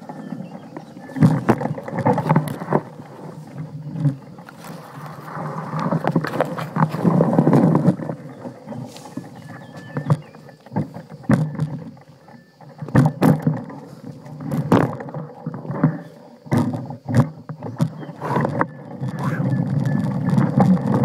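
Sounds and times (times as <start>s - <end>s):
bike knocks and rattles: 0.0s - 21.0s.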